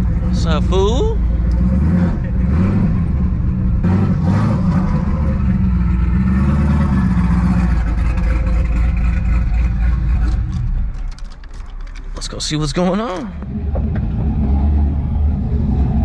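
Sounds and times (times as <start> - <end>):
car engine rumbling at low revs: 0.0 - 16.0.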